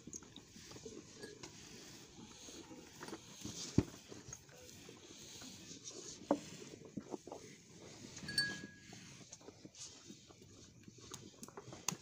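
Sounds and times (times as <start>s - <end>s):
bull munching feed: 0.0s - 12.0s.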